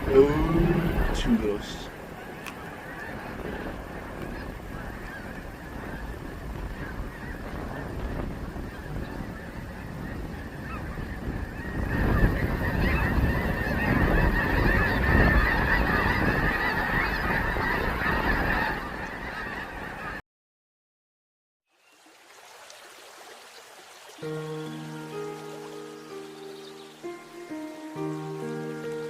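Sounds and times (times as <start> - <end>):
flock of geese honking: 0.0 - 20.2, 24.2 - 29.0.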